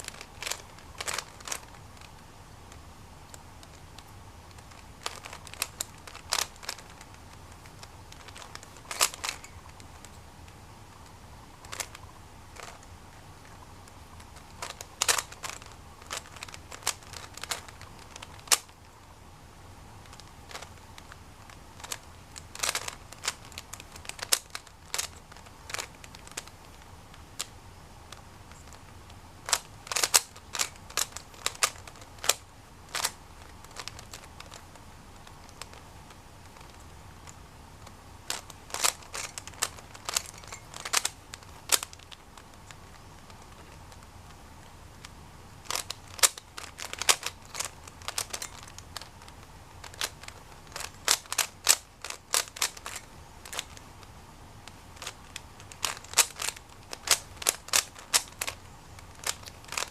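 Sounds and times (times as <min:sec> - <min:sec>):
plastic puzzle cube clicks: 0:00.0 - 0:02.2, 0:03.3 - 0:10.2, 0:11.6 - 0:12.9, 0:14.2 - 0:18.8, 0:20.0 - 0:44.1, 0:45.0 - 0:53.9, 0:54.6 - 0:59.9.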